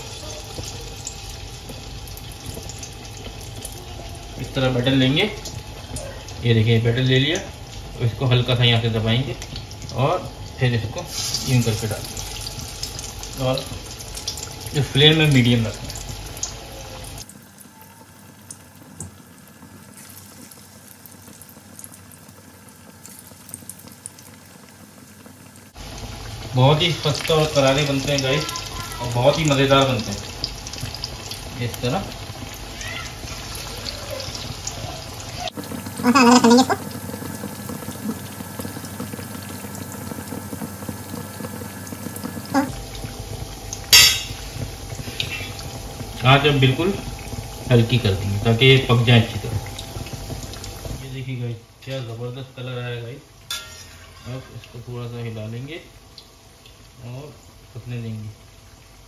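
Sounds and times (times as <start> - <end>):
oil popping and crackling: 0.0 - 8.1, 8.9 - 17.4, 18.4 - 36.0, 36.8 - 51.1
frying in oil sizzling: 0.0 - 59.0.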